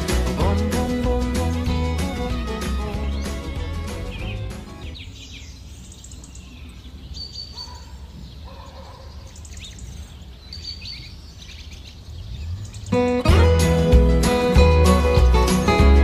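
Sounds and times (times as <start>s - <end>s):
small birds chirping: 0.4s - 13.3s.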